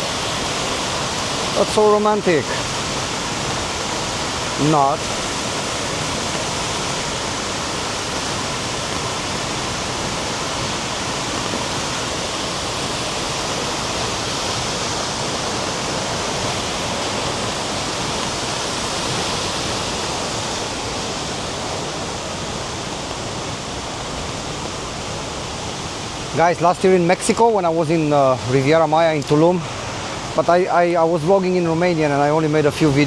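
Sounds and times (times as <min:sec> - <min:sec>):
rain falling: 0:00.0 - 0:33.0
waterfall rushing: 0:00.0 - 0:33.0.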